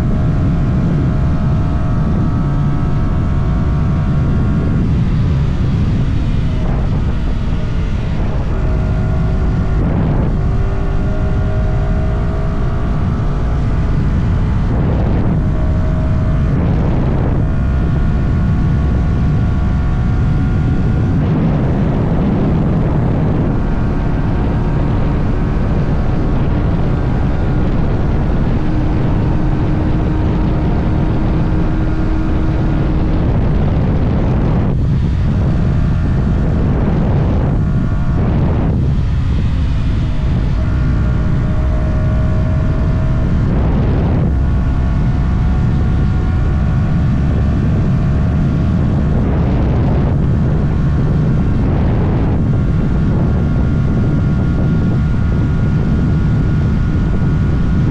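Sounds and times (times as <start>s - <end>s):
motorcycle engine at speed: 0.0s - 57.9s
wind rush over microphone: 0.0s - 57.9s.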